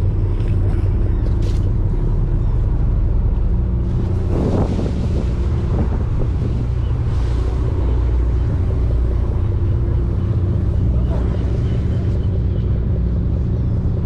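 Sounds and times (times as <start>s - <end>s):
boat engine droning: 0.0s - 14.0s
rush of noise: 0.0s - 14.0s.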